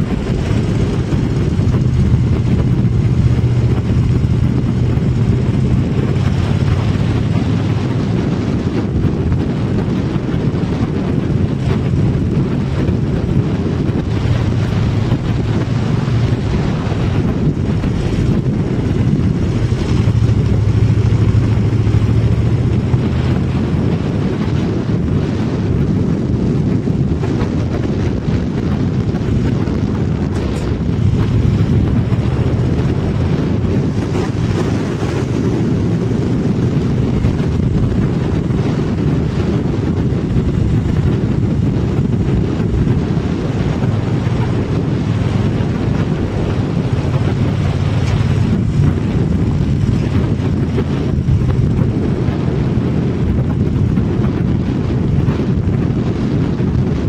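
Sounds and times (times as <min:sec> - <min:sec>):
vehicle rumbling on gravel road: 0:00.0 - 0:57.0
wind buffeting microphone: 0:00.0 - 0:57.0.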